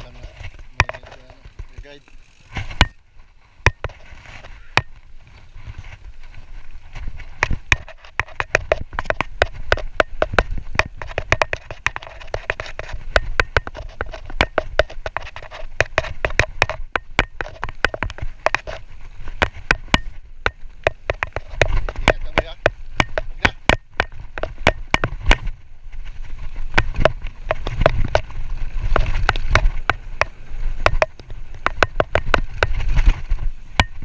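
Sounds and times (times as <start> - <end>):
bike rattling over bumps: 0.0 - 34.0
tyres rumbling on dirt: 3.6 - 34.0.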